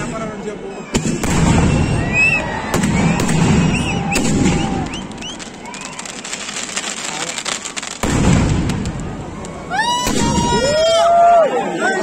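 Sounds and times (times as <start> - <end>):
fireworks bangs: 0.0 - 11.2
fireworks crackling rumble: 0.0 - 11.4
fireworks whistles rising: 0.8 - 11.1.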